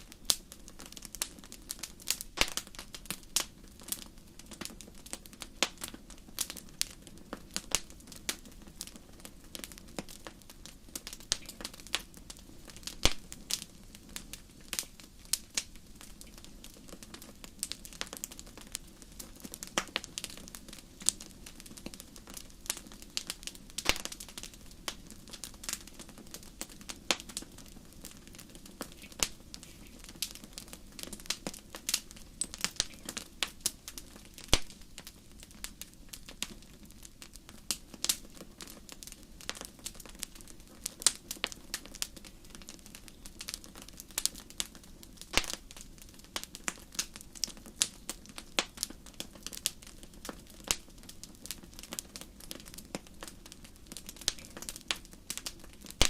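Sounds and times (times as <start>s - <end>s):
fire crackling and popping: 0.0s - 56.0s
low steady fire hiss: 0.0s - 56.0s.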